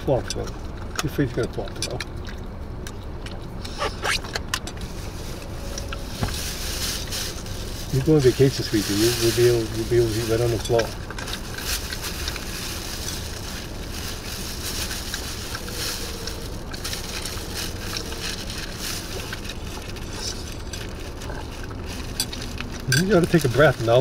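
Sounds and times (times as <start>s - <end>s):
dog chewing and licking: 0.0s - 6.1s, 7.9s - 24.0s
low rumble inside car: 0.0s - 24.0s.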